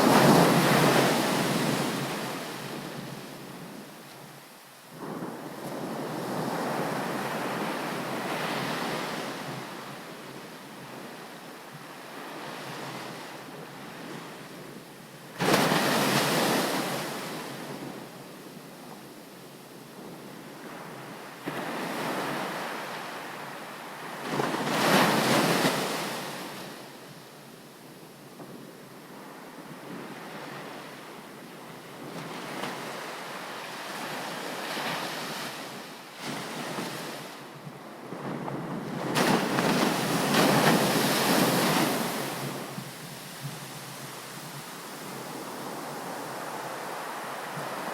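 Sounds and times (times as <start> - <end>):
ocean waves breaking on beach: 0.0 - 18.9, 19.7 - 27.0, 27.9 - 47.9.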